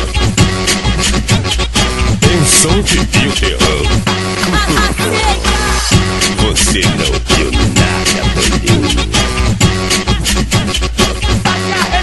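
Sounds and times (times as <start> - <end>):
drum beat: 0.0 - 12.0
heavy bass: 0.0 - 12.0.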